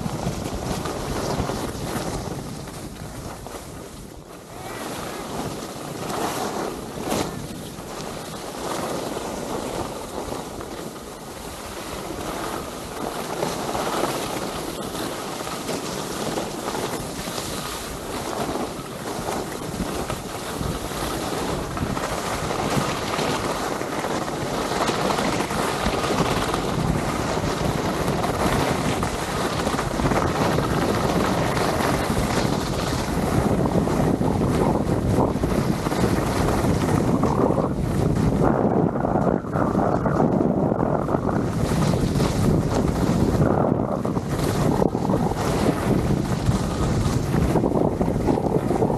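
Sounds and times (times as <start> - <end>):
skis scraping over snow: 0.0 - 48.9
wind rushing over microphone: 0.0 - 48.9.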